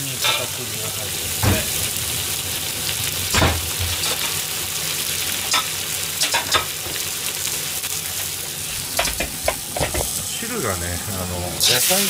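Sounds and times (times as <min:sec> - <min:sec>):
stir-fry sizzling in a wok: 0:00.0 - 0:12.0.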